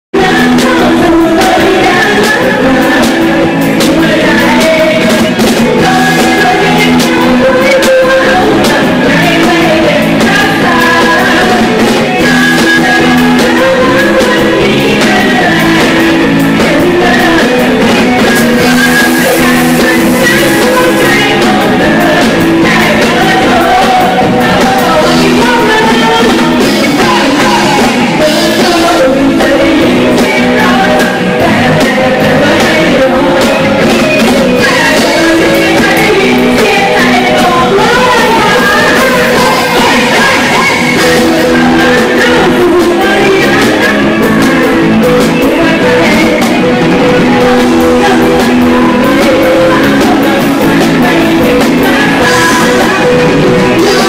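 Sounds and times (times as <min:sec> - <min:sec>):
person singing into a microphone: 0:00.0 - 0:54.0
loud live band: 0:00.1 - 0:54.0.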